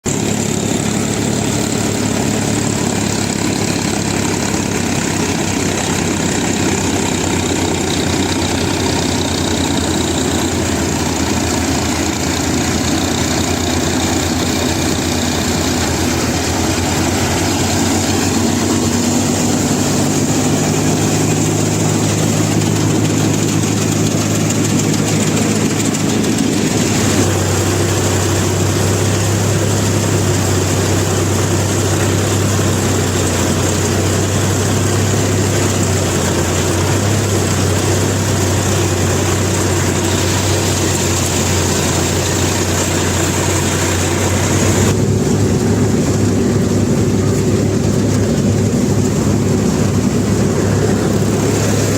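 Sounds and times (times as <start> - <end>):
combine harvester engine drone: 0.0 - 51.9
harvester mechanical noise: 0.0 - 51.9.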